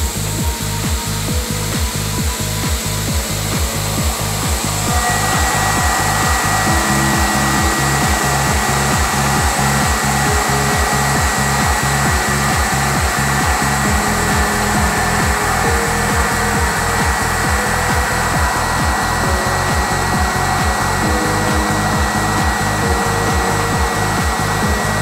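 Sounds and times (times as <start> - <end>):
background music with steady beat: 0.0 - 25.0
drilling hiss with coolant spray: 0.0 - 25.0
thin high whine: 0.0 - 25.0.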